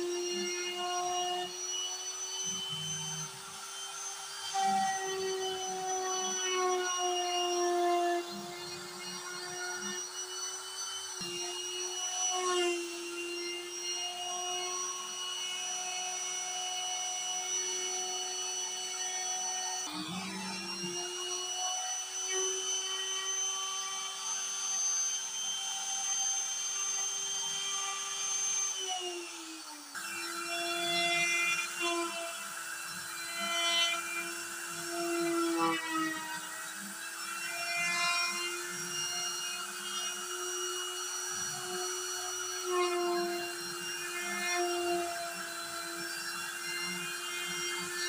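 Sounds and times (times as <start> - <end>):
router spindle whining: 0.0 - 48.0.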